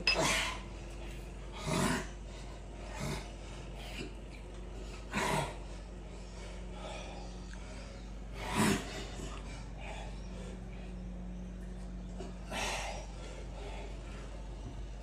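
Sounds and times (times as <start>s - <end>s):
low steady hum: 0.0s - 15.0s
man breathing hard: 2.1s - 11.4s, 12.1s - 15.0s.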